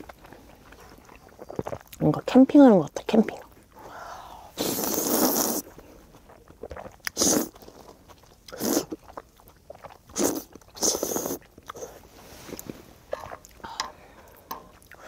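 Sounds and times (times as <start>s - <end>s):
slurping and chewing noodles: 0.0s - 2.1s, 3.1s - 15.0s.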